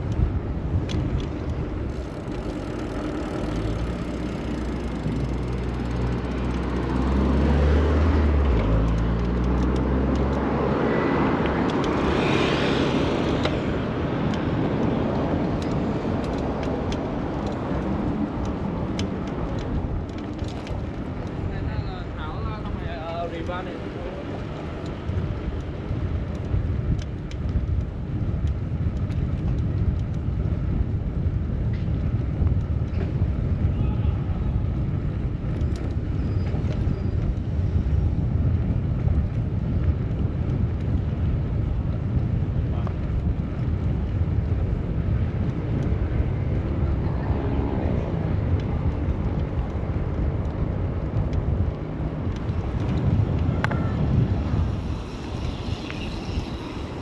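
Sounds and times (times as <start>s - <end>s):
city traffic noise: 0.0s - 57.0s
road noise: 0.0s - 57.0s
wind rumbling on microphone: 0.0s - 57.0s.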